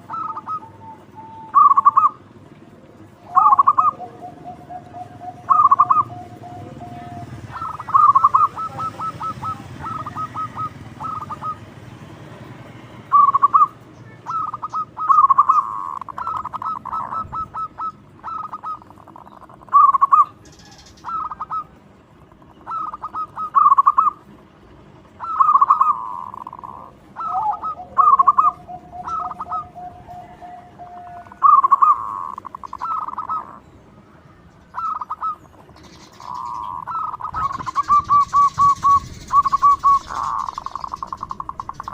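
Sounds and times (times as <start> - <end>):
dove cooing: 0.0 - 11.8, 13.0 - 33.7, 34.7 - 41.9.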